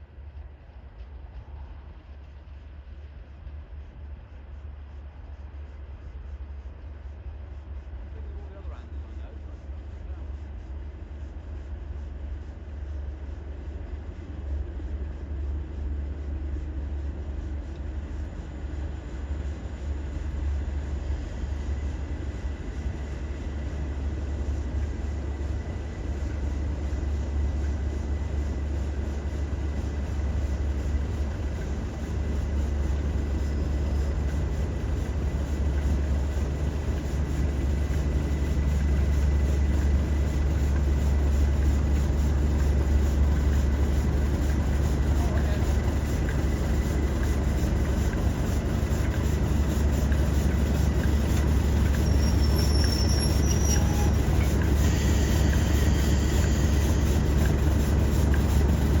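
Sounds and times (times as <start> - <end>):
diesel locomotive engines droning: 0.0 - 59.0.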